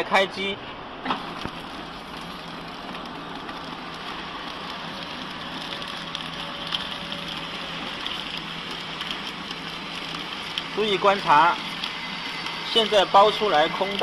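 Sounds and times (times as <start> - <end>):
packaging machine running: 1.1 - 14.0.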